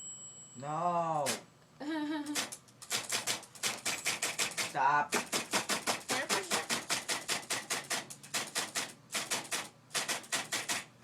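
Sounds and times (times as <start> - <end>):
electric typewriter keys striking: 1.2 - 1.4, 2.3 - 10.9.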